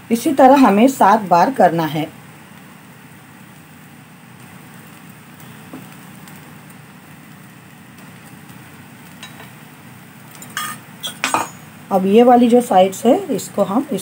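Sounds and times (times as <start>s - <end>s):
batter sizzling on griddle: 0.0s - 14.0s.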